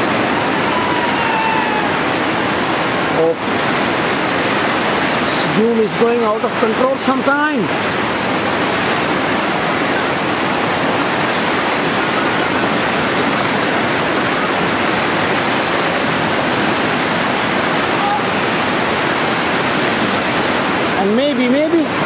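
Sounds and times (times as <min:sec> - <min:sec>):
river rapids rushing: 0:00.0 - 0:22.0.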